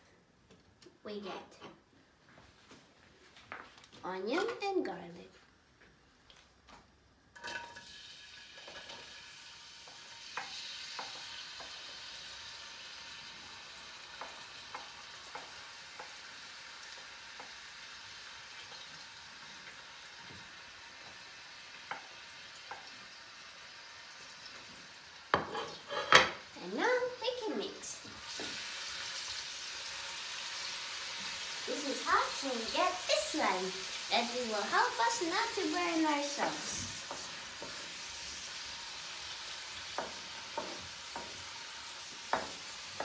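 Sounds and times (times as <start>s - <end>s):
onion and garlic sizzling in oil: 7.3s - 43.0s.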